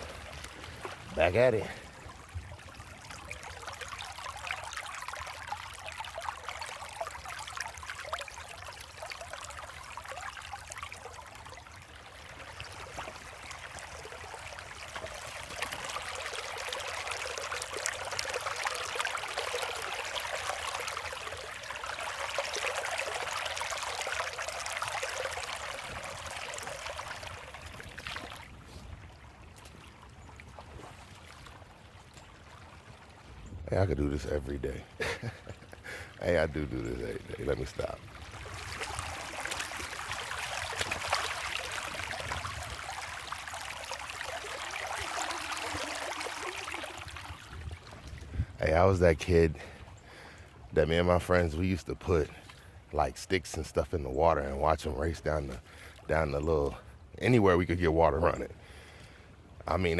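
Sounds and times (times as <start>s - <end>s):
water trickling over rocks: 0.0s - 59.9s.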